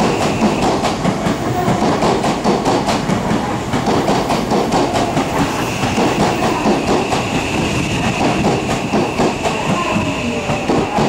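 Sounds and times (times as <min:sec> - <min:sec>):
train wheels clicking over rail joints: 0:00.0 - 0:11.0.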